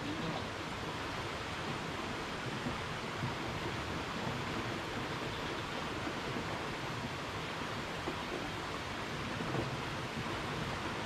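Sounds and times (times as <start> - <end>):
water rushing in canal: 0.0 - 11.0.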